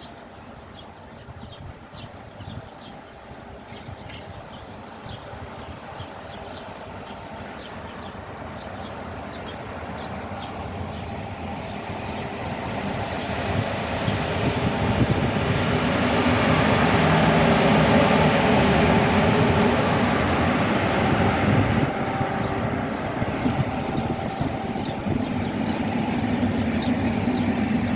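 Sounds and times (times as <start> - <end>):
electric locomotive hauling freight train: 1.8 - 27.9.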